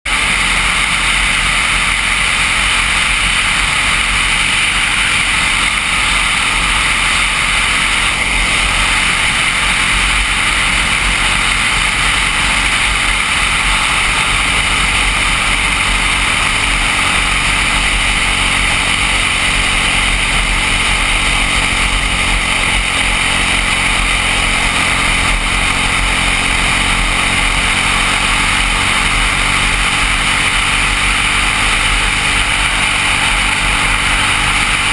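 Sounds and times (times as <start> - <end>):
kart engine droning: 0.1 - 34.9.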